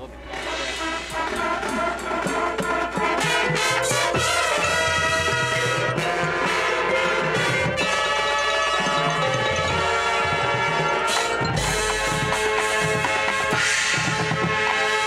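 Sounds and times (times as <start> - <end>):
marching band brass and percussion: 0.0 - 15.0.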